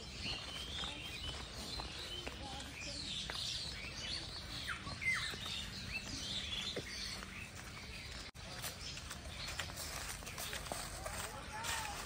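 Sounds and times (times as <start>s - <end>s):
birds chirping and calling: 0.0s - 12.0s
footsteps on dry leaves: 0.0s - 12.0s.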